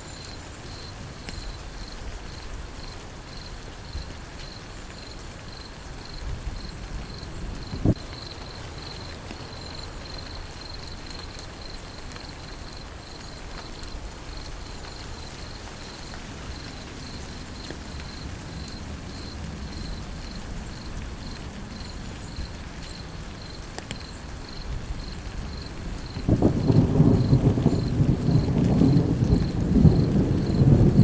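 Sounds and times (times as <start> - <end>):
insects chirping trill: 0.0 - 9.0, 9.6 - 31.0
rain falling: 0.0 - 31.0.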